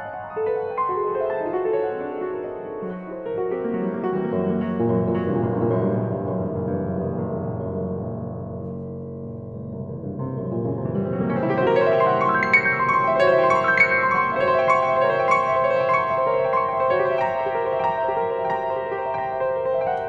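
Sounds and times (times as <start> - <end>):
solo piano classical music: 0.0 - 20.0.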